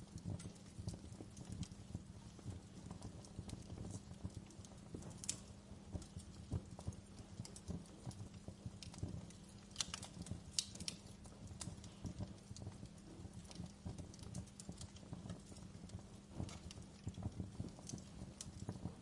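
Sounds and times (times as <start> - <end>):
fire snaps: 0.0 - 19.0
wood fire crackling: 0.0 - 19.0.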